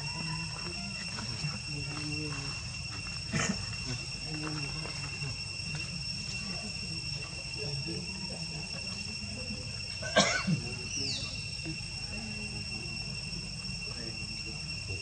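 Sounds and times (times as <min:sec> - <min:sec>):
high-pitched insect drone: 0:00.0 - 0:15.0
low background murmur: 0:00.0 - 0:15.0.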